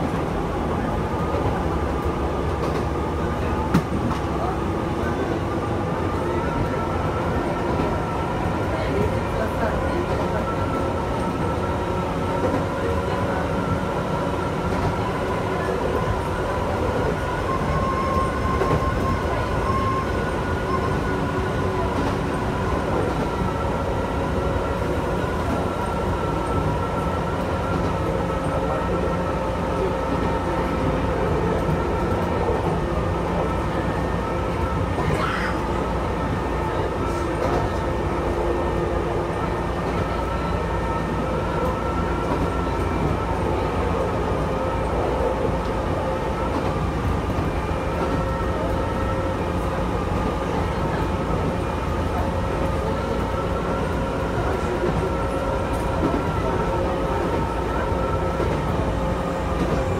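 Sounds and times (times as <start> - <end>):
train wheels rumbling on track: 0.0 - 59.9
train whine: 0.0 - 59.9.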